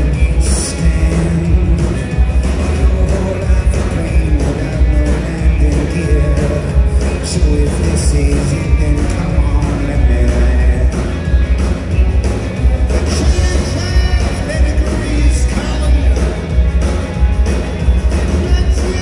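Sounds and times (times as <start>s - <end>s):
man singing lead vocals: 0.0s - 11.4s, 13.0s - 16.6s, 18.2s - 19.0s
live rock band playing: 0.0s - 19.0s.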